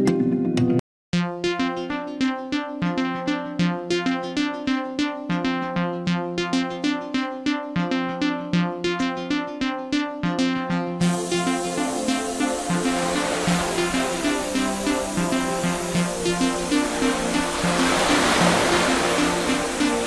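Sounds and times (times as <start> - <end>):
electronic music: 1.2 - 20.0.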